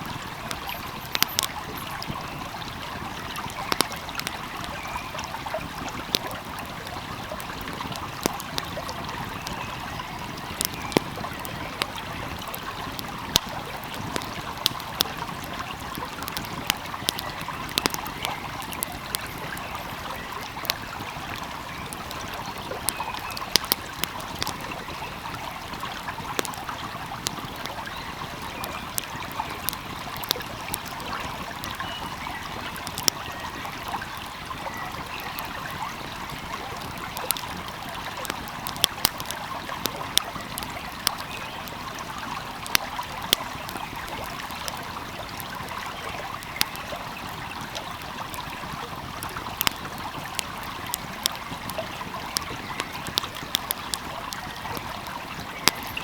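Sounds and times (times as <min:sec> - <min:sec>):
stream flowing: 0:00.0 - 0:56.0
wood fire crackling: 0:00.0 - 0:56.0.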